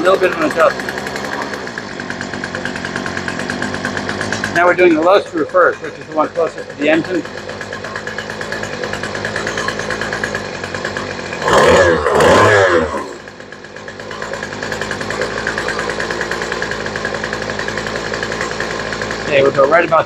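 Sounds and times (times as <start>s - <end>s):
string trimmer engine idling: 0.0s - 20.0s.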